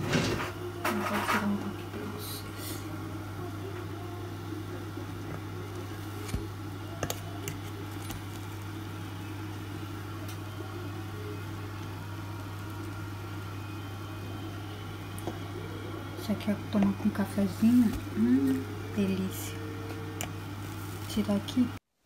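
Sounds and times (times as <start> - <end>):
steady low hum: 0.0 - 21.8.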